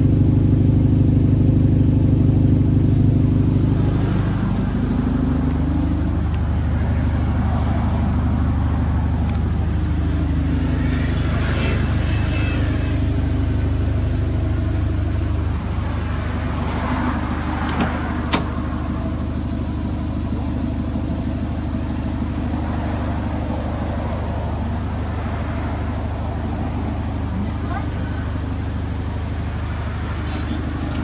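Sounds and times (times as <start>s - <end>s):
car engine idling rumble: 0.0s - 31.0s.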